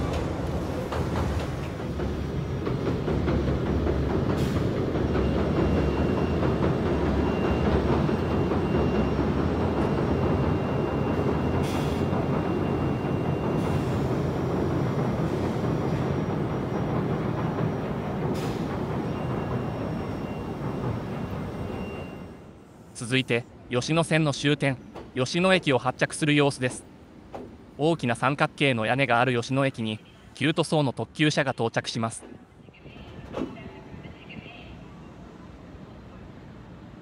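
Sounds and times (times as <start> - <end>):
train rumbling over steel bridge: 0.0 - 37.0.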